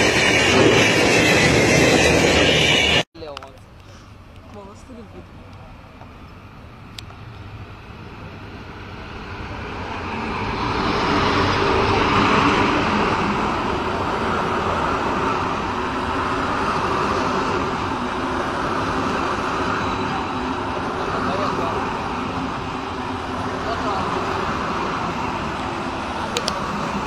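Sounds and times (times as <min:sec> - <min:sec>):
diesel locomotive passing: 0:00.0 - 0:27.0
train coaches rolling by: 0:00.0 - 0:27.0.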